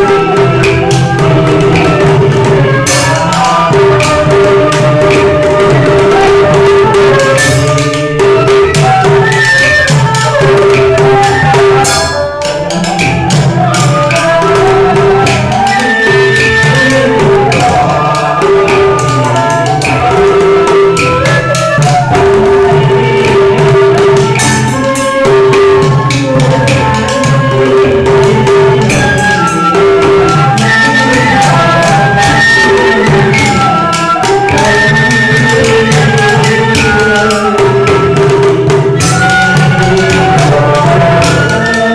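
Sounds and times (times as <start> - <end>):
bamboo flute: 0.0 - 41.9.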